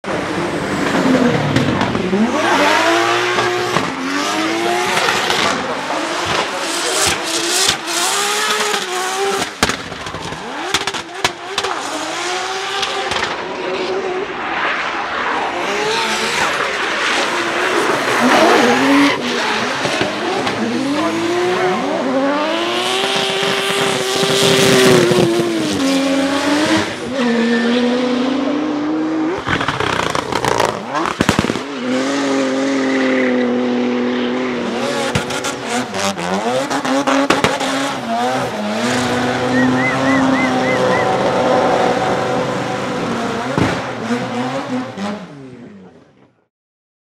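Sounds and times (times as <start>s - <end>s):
car engine revving: 0.1s - 45.8s.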